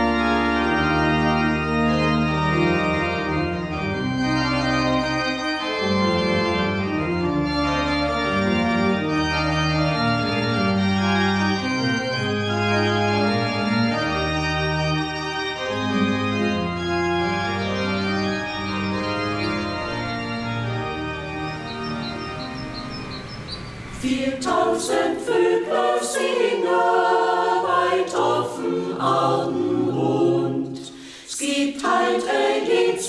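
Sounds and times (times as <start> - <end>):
high ornamented organ notes: 0.0 - 30.9
pipe organ chords: 0.0 - 30.9.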